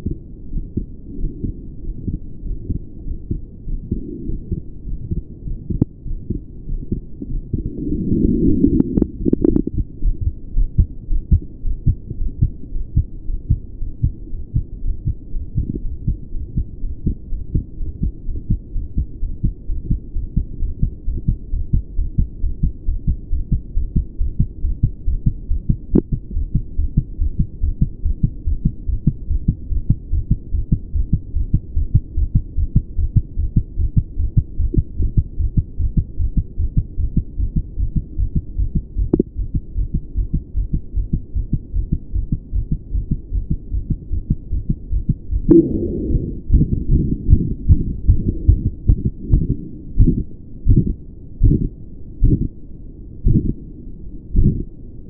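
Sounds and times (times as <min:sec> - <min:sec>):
heartbeat thuds: 0:00.0 - 0:52.5, 0:53.2 - 0:53.6, 0:54.4 - 0:54.7.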